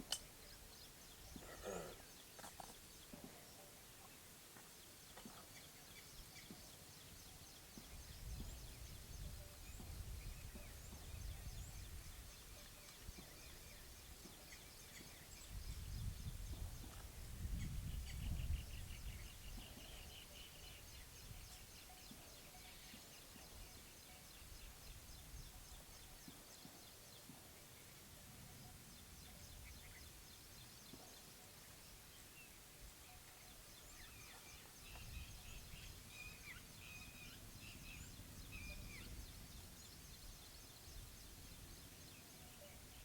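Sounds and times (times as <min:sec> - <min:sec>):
small birds chirping: 0:00.0 - 0:28.1, 0:28.7 - 0:43.0.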